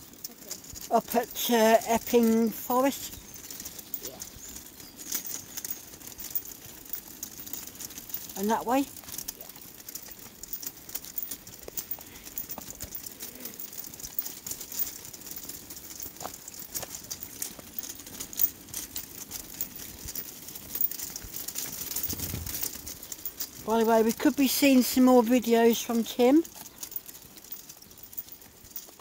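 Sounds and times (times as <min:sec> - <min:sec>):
trolley wheels rattling: 0:00.0 - 0:29.0.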